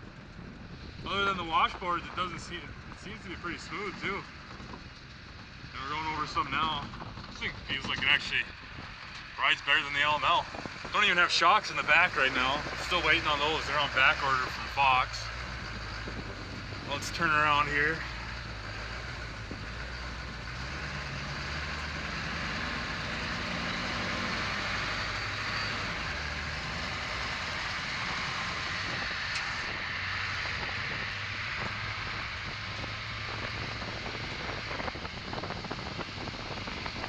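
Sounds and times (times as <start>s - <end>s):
diesel engine running: 0.0s - 37.0s
tyre and road noise: 0.0s - 37.0s.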